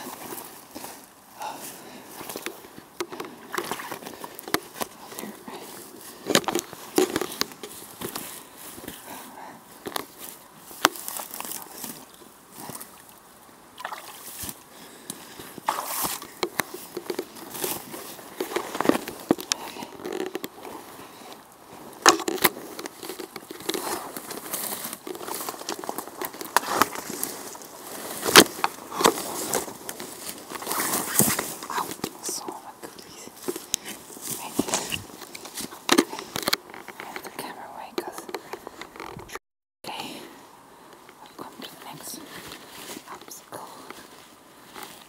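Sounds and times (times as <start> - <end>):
footsteps through dry grass and twigs: 0.0 - 39.3, 41.0 - 45.0.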